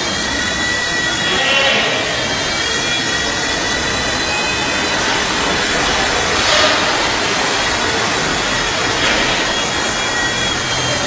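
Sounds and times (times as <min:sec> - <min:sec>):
helicopter rotors whirring: 0:00.0 - 0:11.0.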